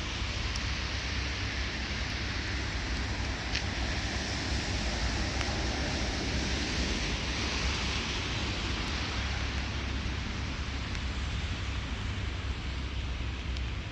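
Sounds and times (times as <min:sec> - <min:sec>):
low steady rumble: 0:00.0 - 0:13.9
raindrop ticks: 0:00.0 - 0:13.9
steady rain hiss: 0:00.0 - 0:13.9.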